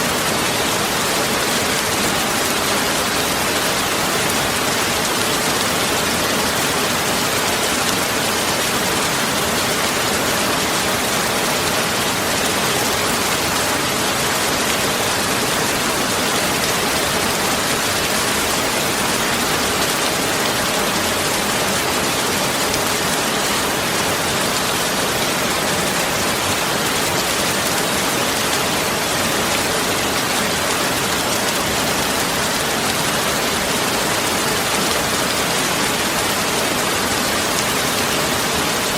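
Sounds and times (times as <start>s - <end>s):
steady rain-like hiss: 0.0s - 38.9s.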